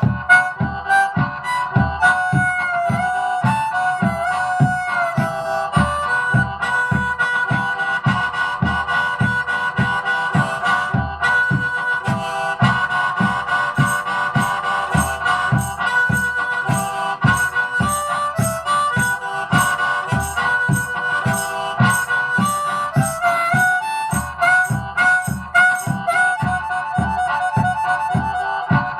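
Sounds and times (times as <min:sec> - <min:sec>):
backing track drum beat: 0:00.0 - 0:28.9
harmonica melody: 0:00.0 - 0:28.9.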